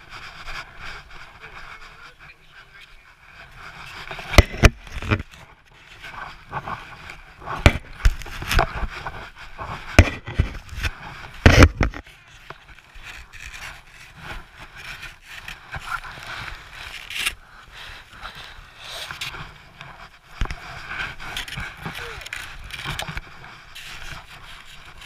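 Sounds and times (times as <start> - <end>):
clothing rubbing on microphone: 0.0 - 25.0.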